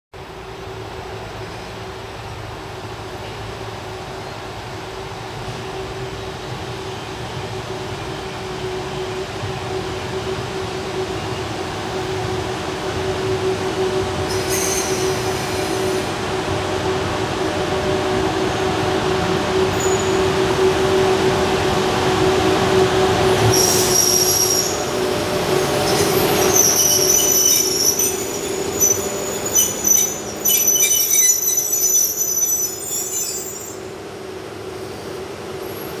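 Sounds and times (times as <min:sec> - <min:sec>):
train hum and rumble: 0:00.2 - 0:36.0.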